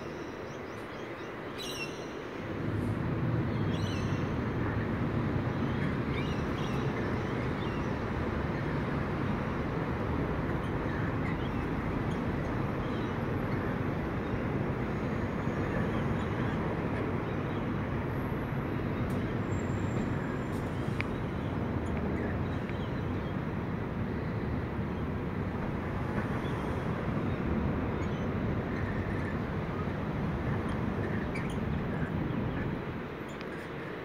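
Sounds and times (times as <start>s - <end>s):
low rumbling background noise: 0.0s - 34.0s.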